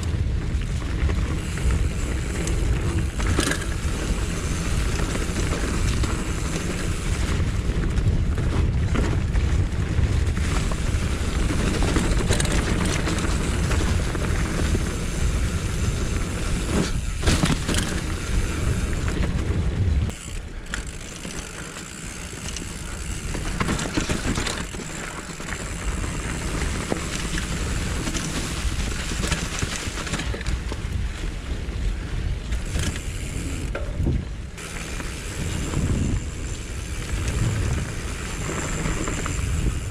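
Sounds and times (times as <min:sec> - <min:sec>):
bike tyre and drivetrain rattle: 0:00.0 - 0:39.9.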